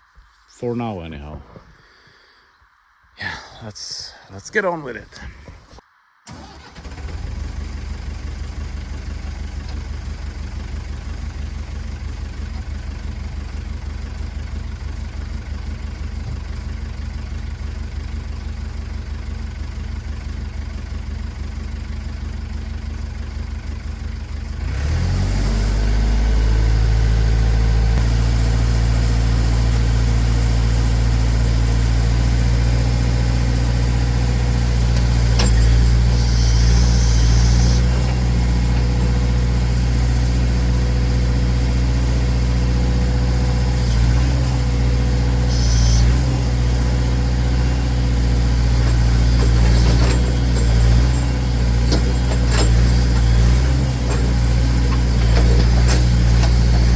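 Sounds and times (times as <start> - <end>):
backhoe engine running: 5.2 - 56.9.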